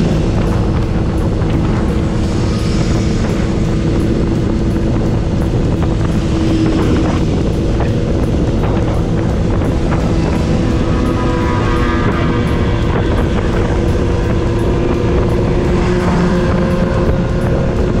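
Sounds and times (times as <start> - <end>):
motorcycle engine and exhaust: 0.0 - 18.0
wind noise on microphone: 0.0 - 18.0.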